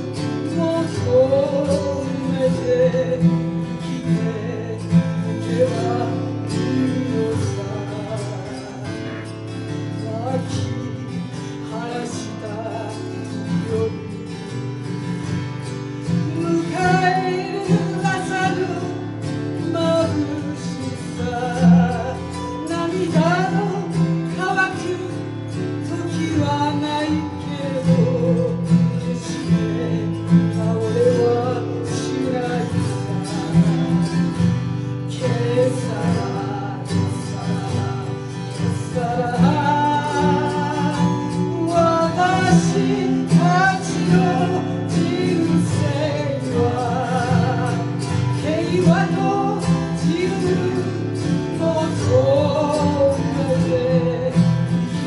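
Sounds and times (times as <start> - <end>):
acoustic guitar: 0.0 - 55.0.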